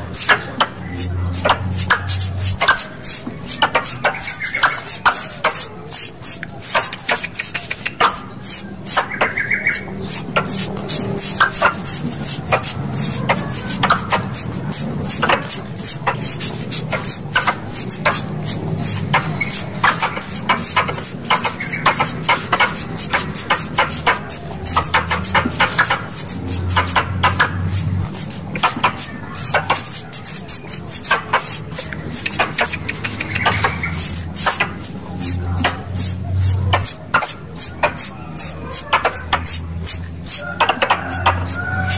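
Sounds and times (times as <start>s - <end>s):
squirrel chirps: 0.0s - 41.9s.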